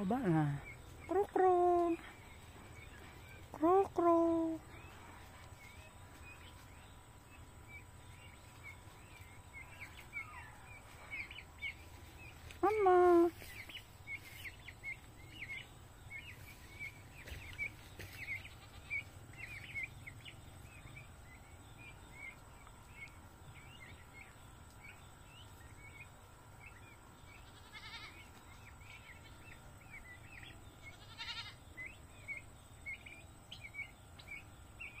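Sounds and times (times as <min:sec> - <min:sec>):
young turkeys peeping: 0:00.0 - 0:35.0.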